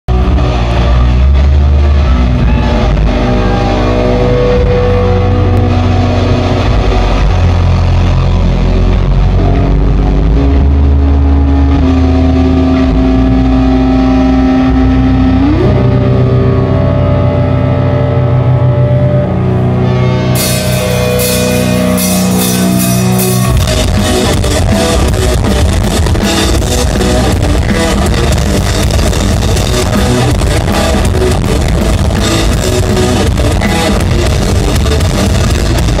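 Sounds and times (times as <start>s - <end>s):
bass guitar droning: 0.0s - 36.0s
distorted electric guitars droning: 0.0s - 36.0s.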